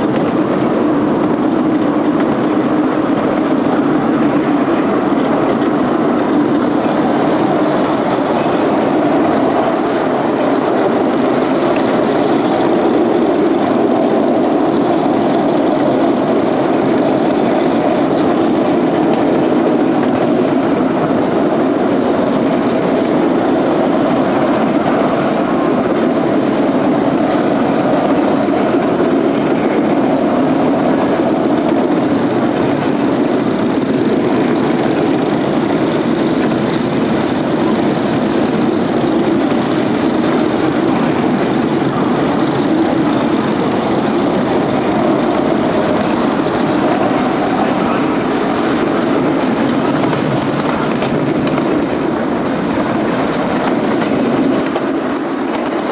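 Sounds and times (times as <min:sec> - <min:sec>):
miniature train wheels rumbling: 0:00.0 - 0:55.9.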